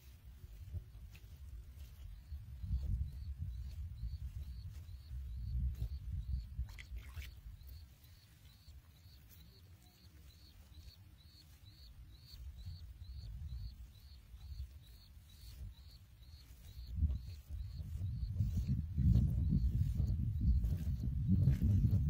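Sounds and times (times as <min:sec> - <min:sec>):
faint high chirp: 0:01.8 - 0:22.0.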